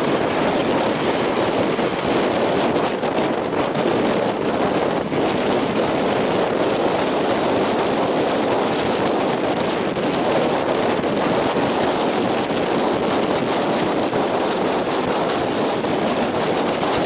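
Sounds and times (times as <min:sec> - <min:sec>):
surf breaking: 0:00.0 - 0:17.0
wind buffeting microphone: 0:00.0 - 0:17.0.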